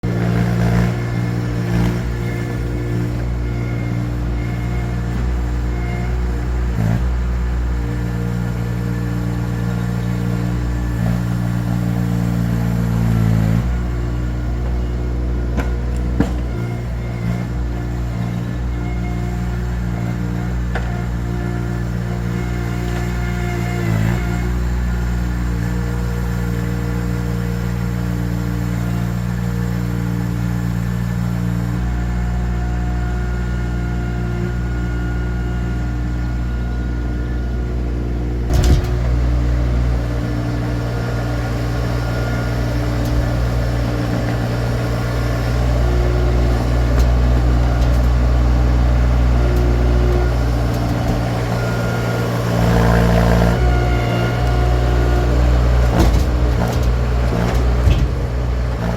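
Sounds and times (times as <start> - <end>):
skid steer engine running: 0.0 - 58.9.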